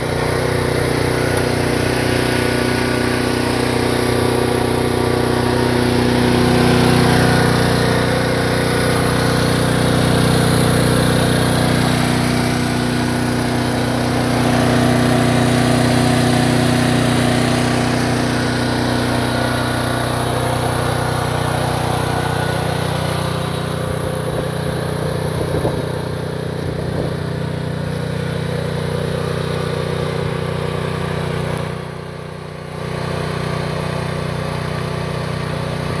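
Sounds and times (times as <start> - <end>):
mini excavator engine running: 0.0 - 36.0.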